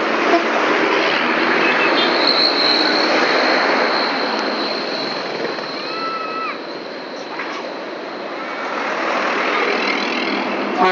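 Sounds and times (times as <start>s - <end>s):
faint high whine: 1.2s - 10.7s.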